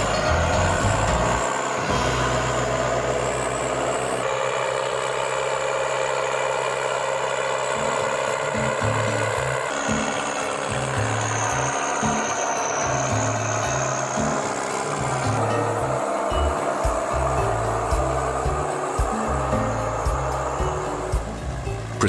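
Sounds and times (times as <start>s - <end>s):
background music: 0.0s - 4.3s, 7.8s - 22.0s
heavy diesel machine running: 0.0s - 22.0s.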